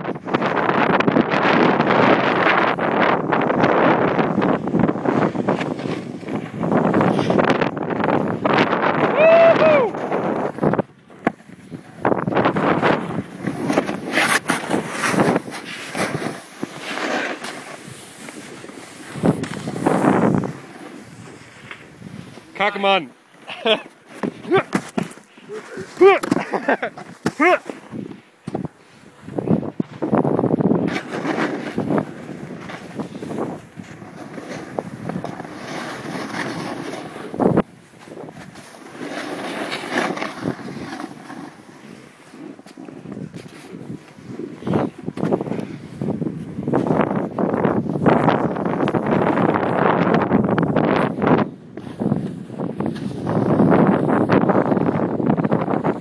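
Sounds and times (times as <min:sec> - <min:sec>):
wind noise on microphone: 0:00.0 - 0:22.8, 0:23.6 - 0:56.0
snowboard scraping over snow: 0:00.0 - 0:56.0.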